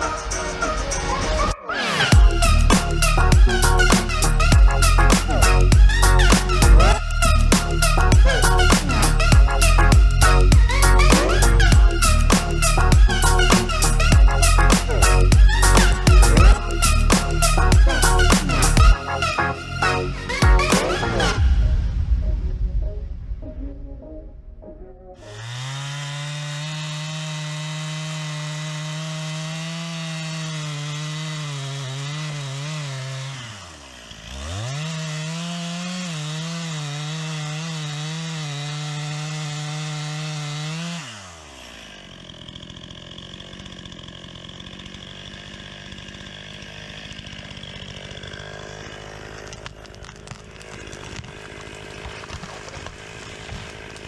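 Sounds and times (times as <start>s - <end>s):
chainsaw cutting wood: 0.0s - 21.4s, 25.2s - 54.0s.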